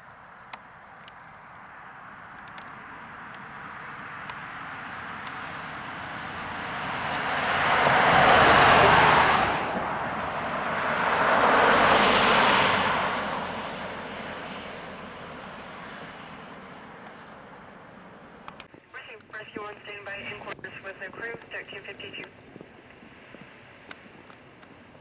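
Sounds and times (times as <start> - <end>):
road vehicles passing close: 0.0 - 25.0.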